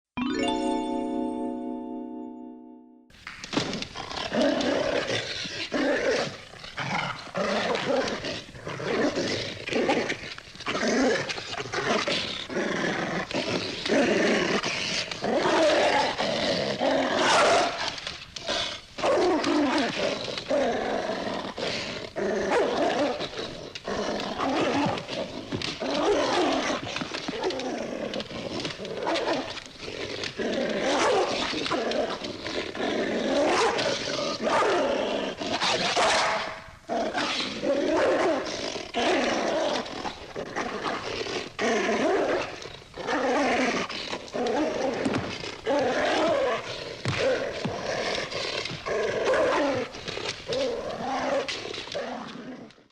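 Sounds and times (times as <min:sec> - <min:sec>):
dog growling and snarling: 0:03.5 - 0:52.9.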